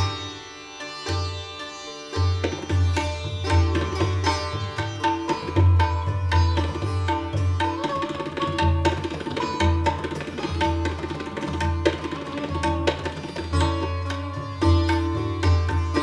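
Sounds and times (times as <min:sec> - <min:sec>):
sitar plucking: 0:00.0 - 0:16.0
tabla strokes: 0:00.0 - 0:16.0.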